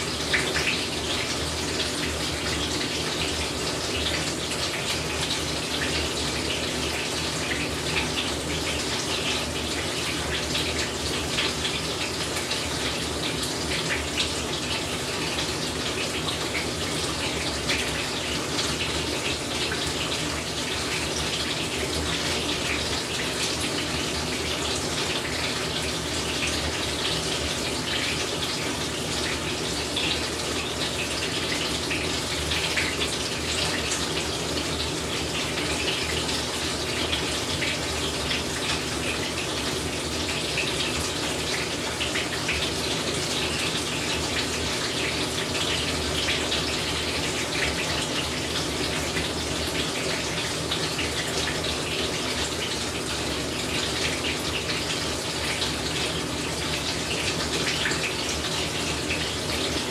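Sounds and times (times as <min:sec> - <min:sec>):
water splashing in washing machine: 0:00.0 - 0:59.9.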